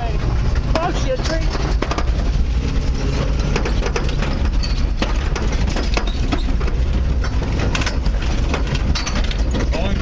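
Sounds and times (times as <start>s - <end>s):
knocks and rattles over rough ground: 0.0s - 10.0s
truck engine low rumble: 0.0s - 10.0s.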